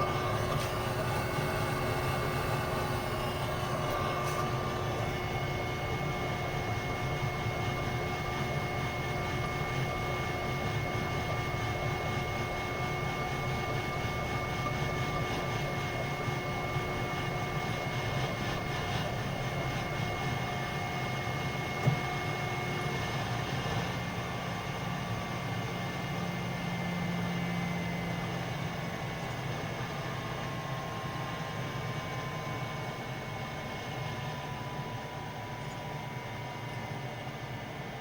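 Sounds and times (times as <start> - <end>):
boiler running: 0.0 - 38.0.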